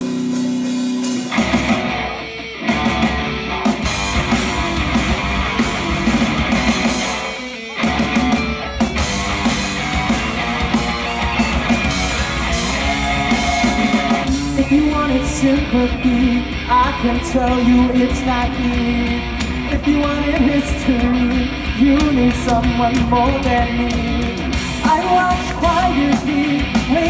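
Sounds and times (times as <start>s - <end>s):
rock band instrumental: 0.0s - 27.0s.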